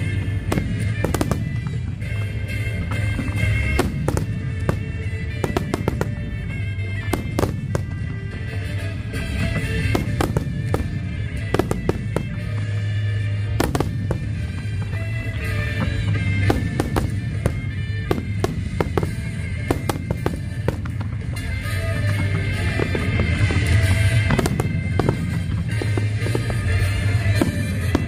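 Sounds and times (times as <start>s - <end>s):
fireworks bursting and crackling: 0.0s - 28.0s
music: 0.0s - 28.0s.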